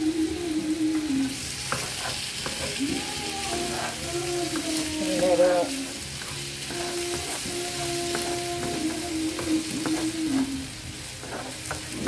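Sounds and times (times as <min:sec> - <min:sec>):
potatoes sizzling in oil: 0:00.0 - 0:12.0
spatula scraping and tapping pan: 0:01.6 - 0:10.5, 0:11.2 - 0:12.0.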